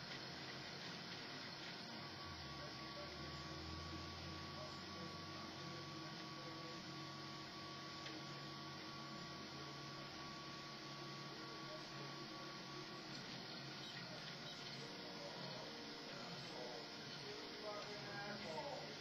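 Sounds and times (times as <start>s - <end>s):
stepper motors humming: 0.0s - 19.0s.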